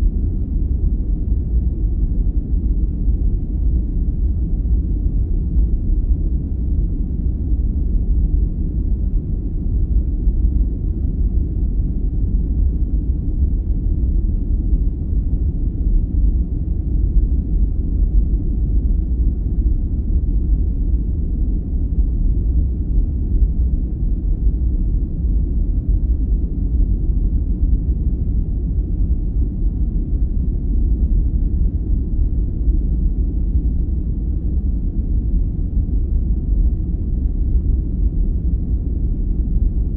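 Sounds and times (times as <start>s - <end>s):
deep rumbling brown noise: 0.0s - 39.9s.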